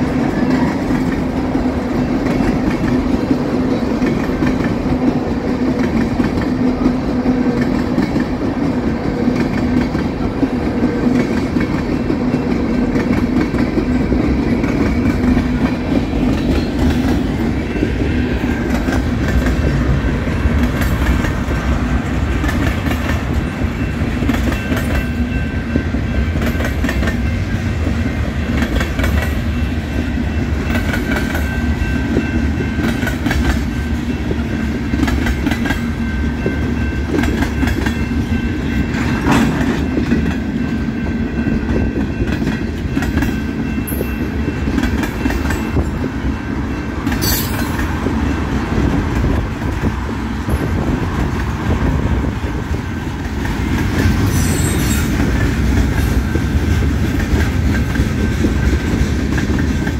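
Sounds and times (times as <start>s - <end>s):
freight train rumbling past: 0.0s - 59.9s
steel wheels clacking over rail joints: 0.0s - 59.9s.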